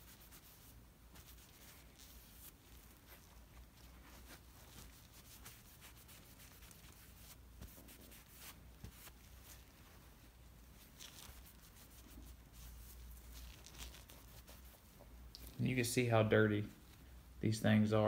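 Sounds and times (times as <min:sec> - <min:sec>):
towel wiping metal: 0:00.0 - 0:15.0
low room hum: 0:00.0 - 0:18.0.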